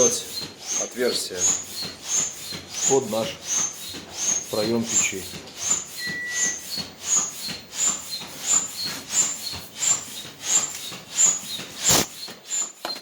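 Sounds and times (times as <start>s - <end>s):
hand pump strokes with whistle: 0.0s - 13.0s.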